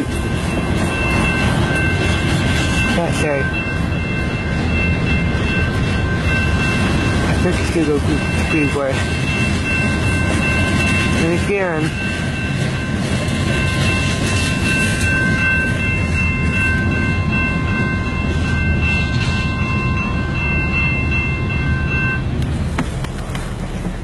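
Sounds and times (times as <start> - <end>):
high-pitched ringing: 0.0 - 22.4
freight train rumbling past: 0.0 - 24.0.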